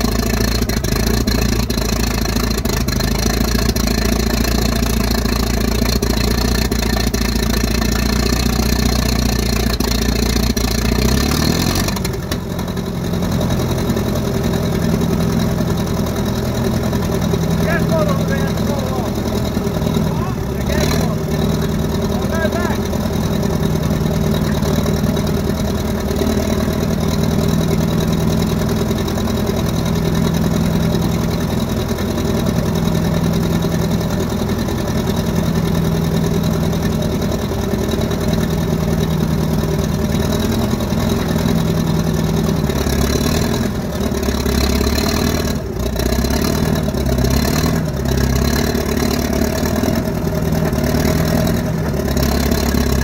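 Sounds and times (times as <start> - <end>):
dozer engine running: 0.0 - 53.0.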